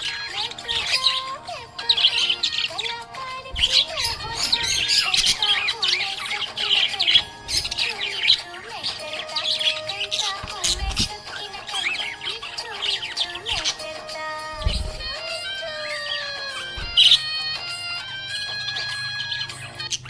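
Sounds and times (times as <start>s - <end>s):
background music simple melody: 0.0s - 20.0s
budgerigars chirping: 0.0s - 20.0s.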